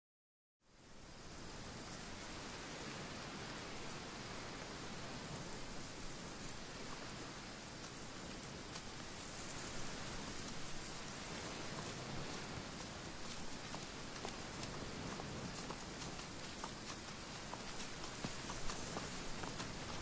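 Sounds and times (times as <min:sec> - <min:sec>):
wind rushing hiss: 0:01.0 - 0:20.0.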